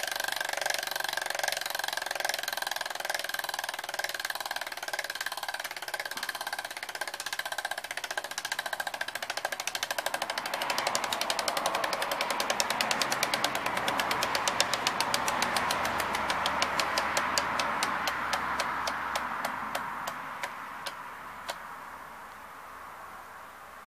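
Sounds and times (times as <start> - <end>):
bicycle freehub ticking: 0.0 - 21.6
spinning wheel whir: 0.0 - 21.6.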